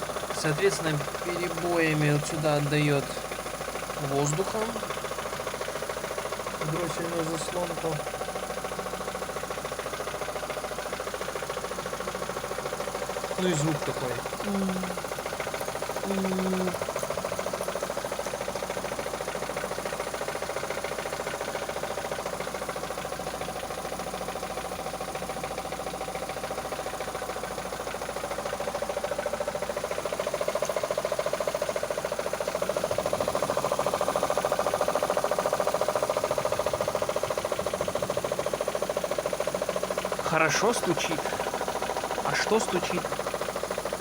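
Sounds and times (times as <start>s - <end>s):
car engine running: 0.0s - 44.0s
rapid engine knock: 0.0s - 44.0s.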